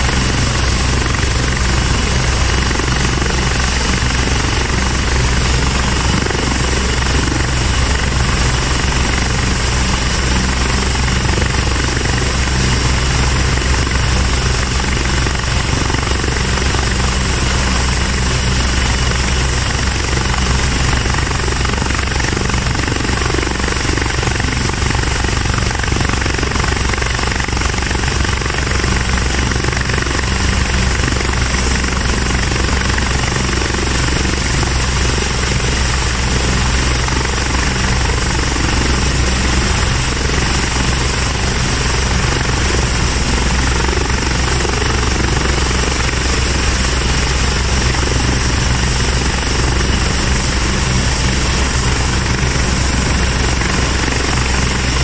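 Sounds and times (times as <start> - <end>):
helicopter turbine whine: 0.0 - 55.0
low rotor drone: 0.0 - 55.0.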